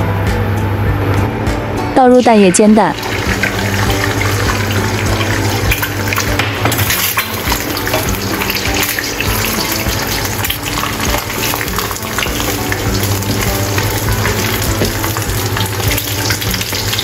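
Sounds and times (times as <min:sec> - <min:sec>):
egg frying in hot oil: 0:03.0 - 0:17.0.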